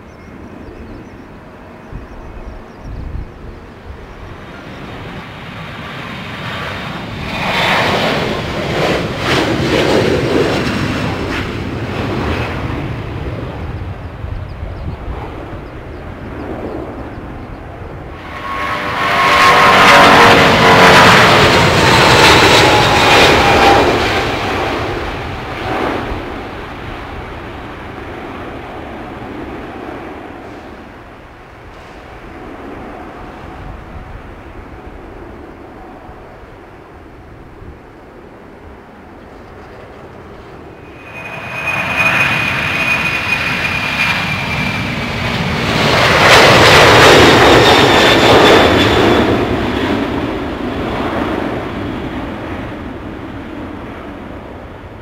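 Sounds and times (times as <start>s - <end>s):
jet airliner engines taking off: 0.0s - 55.0s
jet engine climbing with whine: 0.0s - 55.0s.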